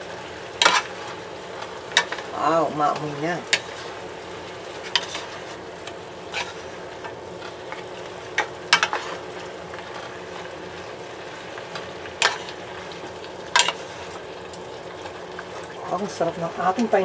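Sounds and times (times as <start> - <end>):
food stirred in pan: 0.0 - 17.0
sauce sizzling: 0.0 - 17.0.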